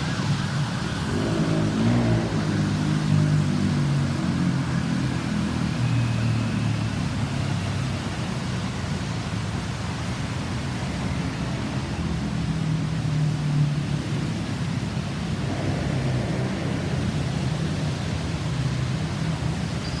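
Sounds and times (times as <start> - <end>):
vehicle engines in traffic: 0.0 - 20.0.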